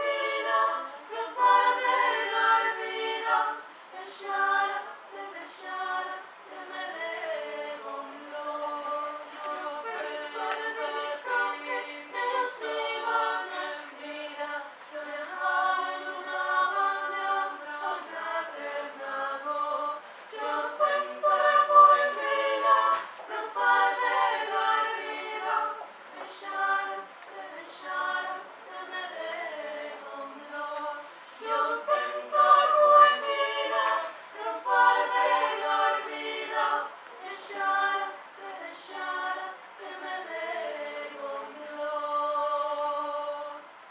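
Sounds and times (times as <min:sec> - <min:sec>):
small choir singing in harmony: 0:00.0 - 0:43.9.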